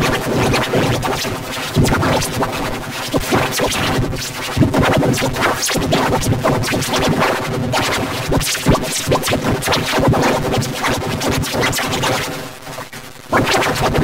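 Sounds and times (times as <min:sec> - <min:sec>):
garbled stuttering processed audio: 0:00.0 - 0:14.0.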